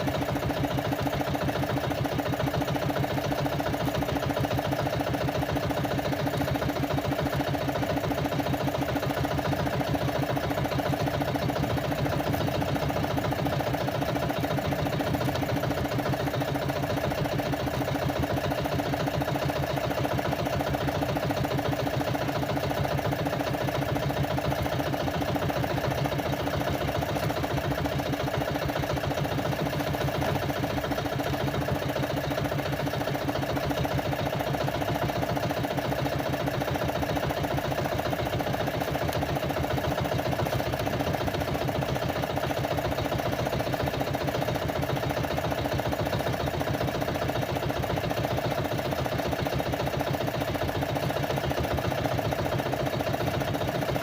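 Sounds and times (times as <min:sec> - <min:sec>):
boat engine running steadily: 0:00.0 - 0:54.0.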